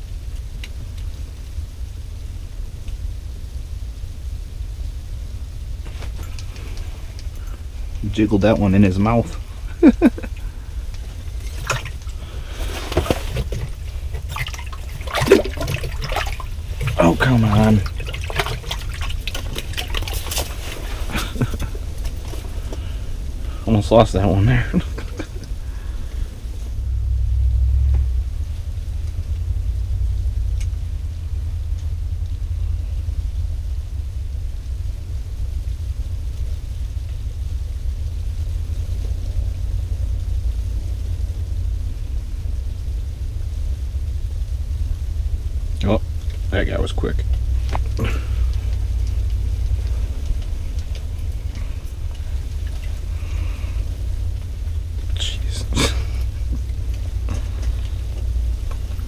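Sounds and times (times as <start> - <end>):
low steady rumble: 0.0 - 59.0.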